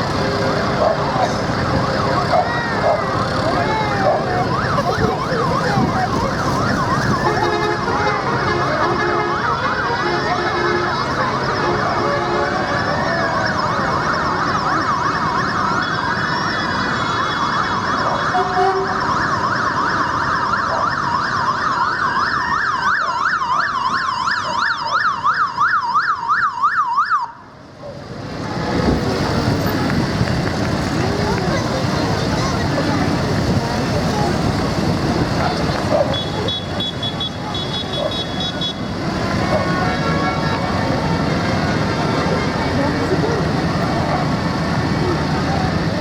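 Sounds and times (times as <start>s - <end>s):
fast siren yelp: 0.0s - 27.8s, 33.8s - 46.0s
emergency sirens wailing: 0.0s - 46.0s
road noise: 0.0s - 46.0s.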